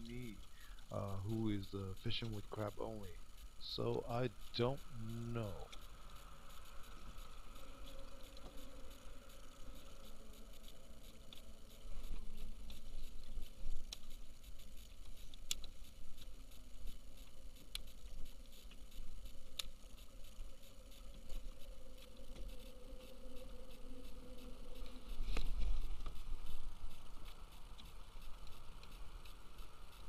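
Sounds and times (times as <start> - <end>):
sharp ticks: 0.0 - 30.0.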